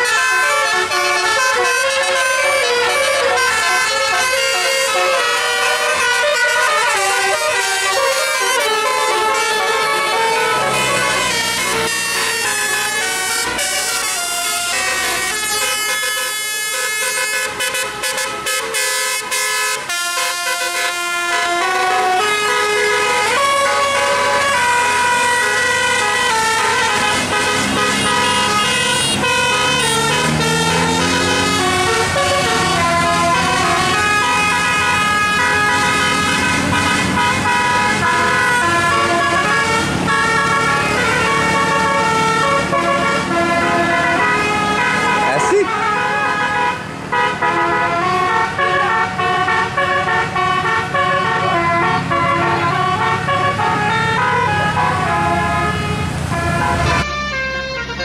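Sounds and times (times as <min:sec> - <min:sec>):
bus engine revving: 0:00.0 - 0:58.0
musical air horn melody: 0:00.0 - 0:58.0.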